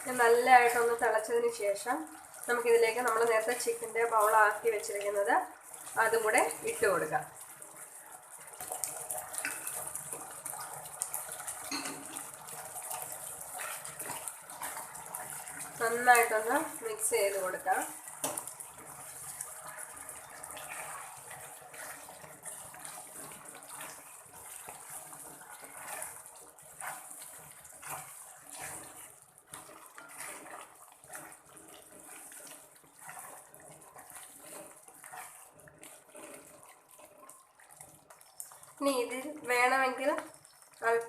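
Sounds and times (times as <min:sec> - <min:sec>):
gravy bubbling and sizzling in a pan: 0:00.0 - 0:41.0
spatula stirring and scraping: 0:00.0 - 0:41.0.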